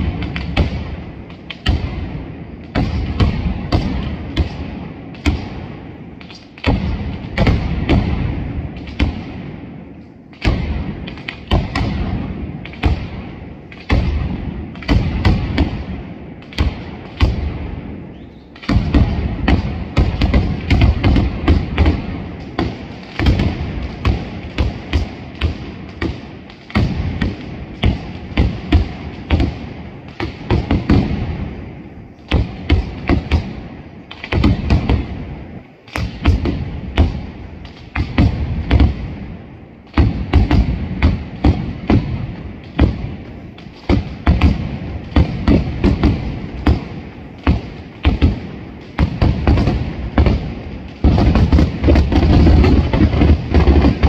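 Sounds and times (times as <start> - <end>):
firecracker bangs in rapid volleys: 0.0 - 54.0.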